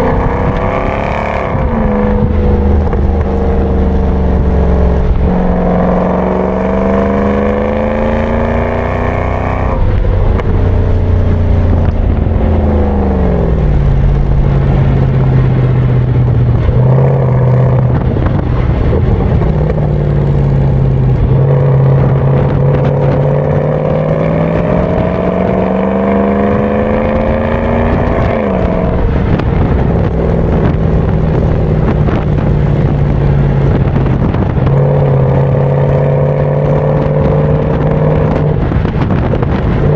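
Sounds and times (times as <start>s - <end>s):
car engine accelerating: 0.0s - 39.9s
low road rumble: 0.0s - 39.9s.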